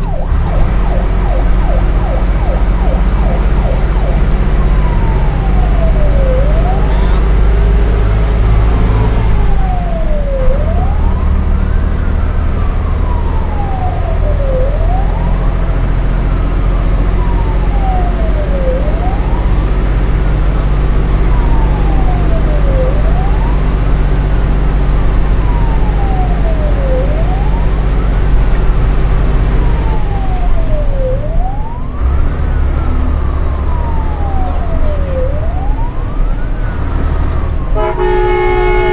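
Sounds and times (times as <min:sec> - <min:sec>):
fire engine siren wailing: 0:00.0 - 0:38.9
truck engine running: 0:00.0 - 0:38.9.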